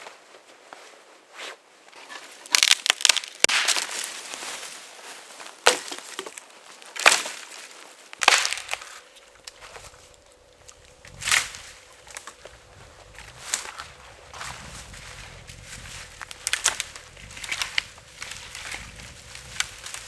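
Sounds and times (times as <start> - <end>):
dead wood cracking and snapping: 2.5 - 4.2, 5.6 - 20.0.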